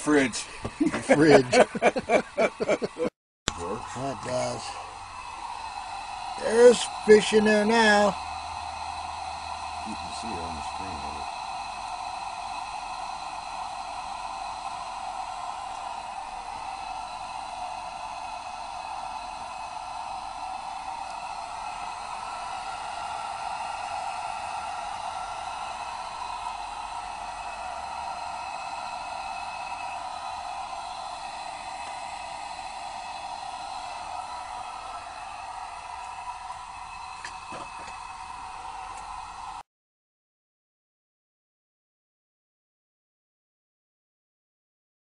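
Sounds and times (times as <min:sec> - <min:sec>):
lantern hissing: 0:00.0 - 0:39.6.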